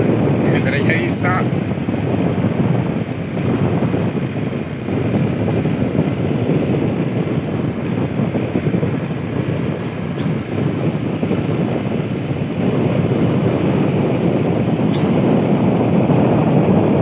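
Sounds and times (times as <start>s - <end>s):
wind noise: 0.0s - 17.0s
motorcycle engine rumble: 1.5s - 17.0s.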